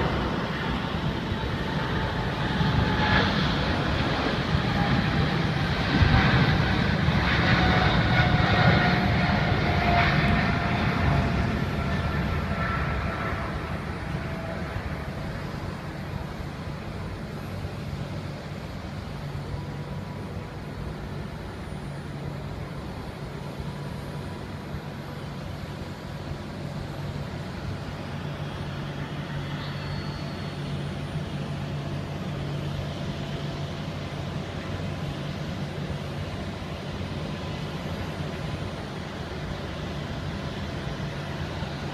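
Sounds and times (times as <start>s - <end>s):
jet engines passing: 0.0s - 41.9s.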